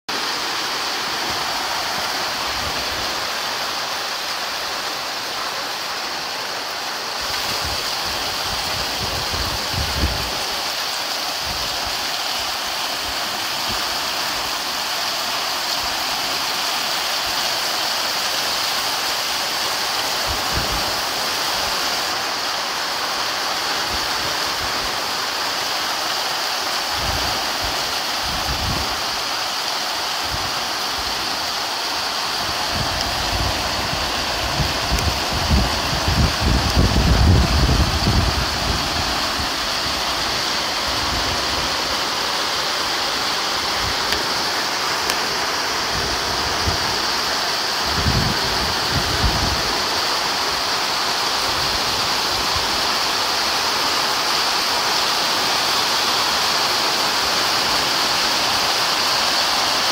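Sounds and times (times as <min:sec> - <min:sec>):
heavy rain pouring: 0:00.1 - 0:59.9.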